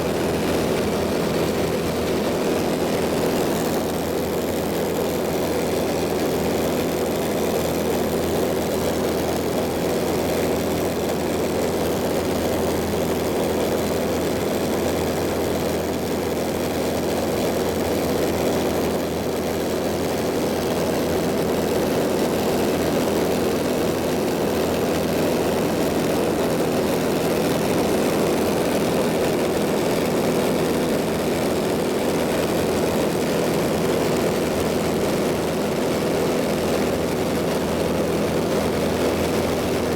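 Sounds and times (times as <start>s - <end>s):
propeller airplane engine drone: 0.0s - 39.9s.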